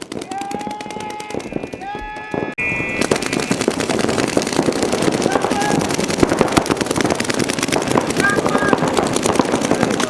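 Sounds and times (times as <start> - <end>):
paintball markers firing: 0.0 - 2.4, 3.0 - 10.0.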